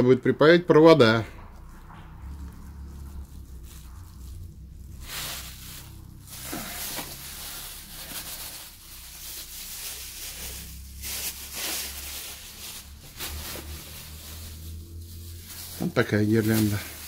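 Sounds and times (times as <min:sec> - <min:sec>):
steady low hum: 0:00.0 - 0:17.0
plastic bags rustling: 0:01.0 - 0:17.0.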